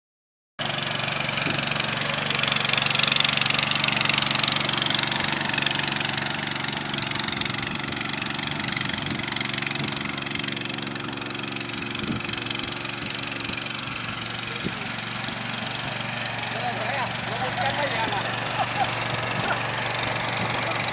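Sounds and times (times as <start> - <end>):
power tiller engine running: 0.6 - 20.9.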